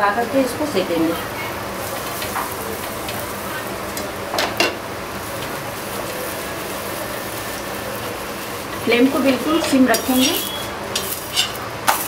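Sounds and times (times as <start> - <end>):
ghee sizzling on griddle: 0.0 - 12.0.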